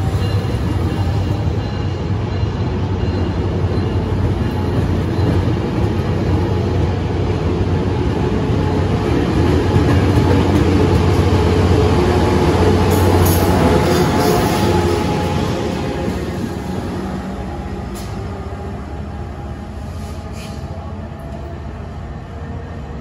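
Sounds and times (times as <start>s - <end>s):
diesel locomotive passing: 0.0s - 23.0s
train wheels rumbling on rails: 0.0s - 23.0s.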